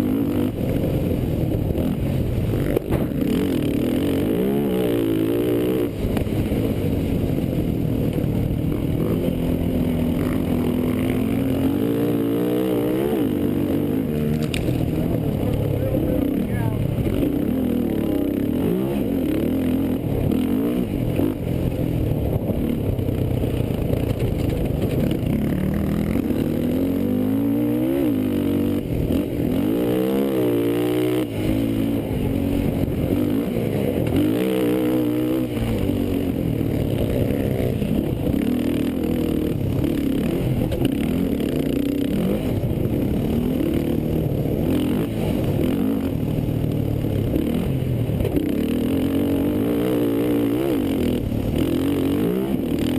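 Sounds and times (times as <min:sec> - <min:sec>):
quad engines revving: 0:08.4 - 0:23.1, 0:23.8 - 0:52.9.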